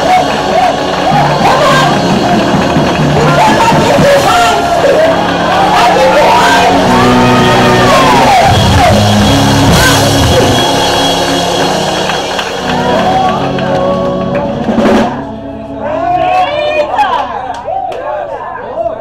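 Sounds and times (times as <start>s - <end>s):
worship music with keyboard and drums: 0.0s - 17.8s.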